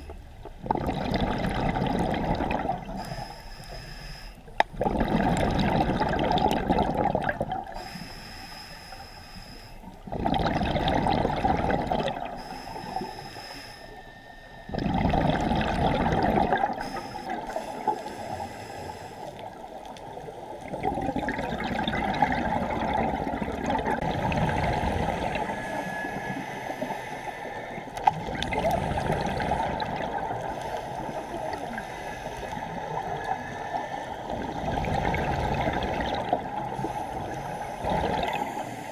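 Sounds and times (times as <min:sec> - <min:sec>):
exhaled bubbles underwater: 0:00.0 - 0:03.0, 0:04.7 - 0:07.8, 0:10.0 - 0:13.1, 0:14.7 - 0:18.2, 0:19.4 - 0:38.9.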